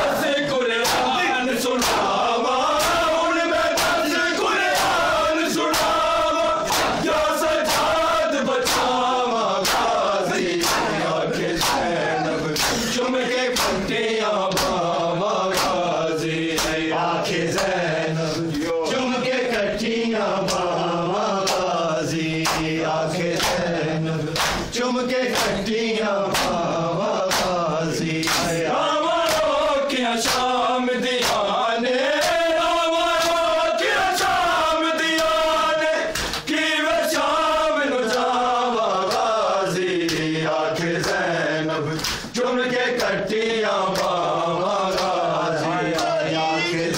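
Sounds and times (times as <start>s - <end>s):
men chanting in unison: 0.0s - 46.9s.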